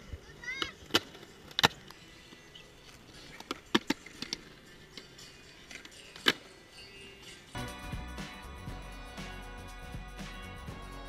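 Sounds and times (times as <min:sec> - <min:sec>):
skateboard rolling on concrete: 0:00.0 - 0:11.0.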